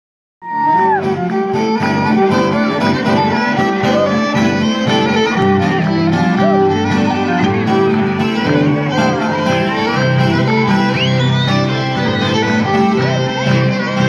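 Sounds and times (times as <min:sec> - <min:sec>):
folk band dance music: 0:00.5 - 0:14.0
violin melody: 0:00.6 - 0:14.0.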